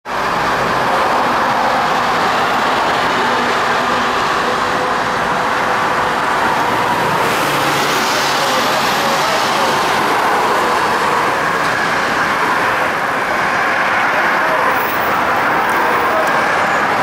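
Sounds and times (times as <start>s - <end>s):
road traffic: 0.0s - 17.0s
subway train on bridge tracks: 0.0s - 17.0s.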